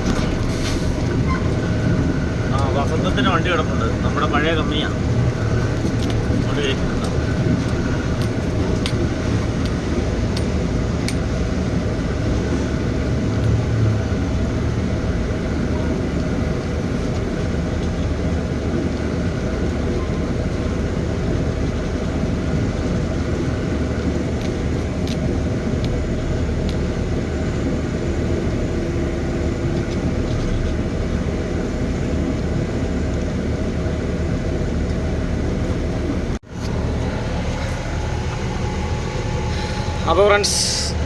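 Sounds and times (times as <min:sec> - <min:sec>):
truck diesel engine running: 0:00.0 - 0:41.0.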